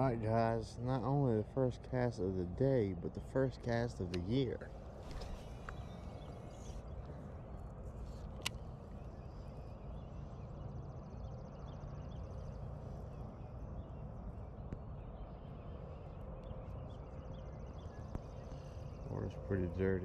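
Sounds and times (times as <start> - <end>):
steady low rush: 0.0 - 20.0.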